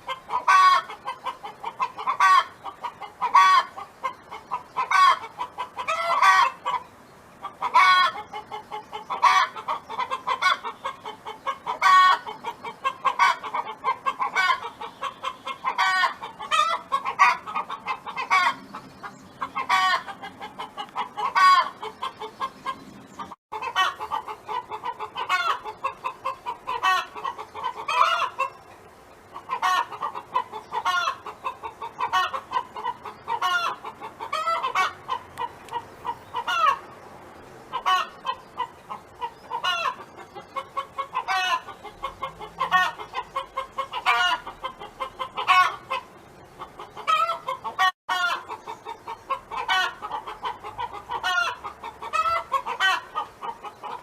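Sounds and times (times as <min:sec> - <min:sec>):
hen clucking: 0:00.0 - 0:37.0, 0:37.7 - 0:54.0.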